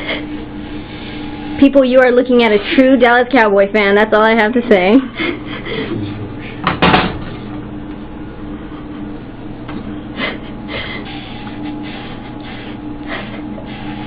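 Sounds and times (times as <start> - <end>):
electric hair clippers humming: 0.0 - 2.8, 4.7 - 14.0.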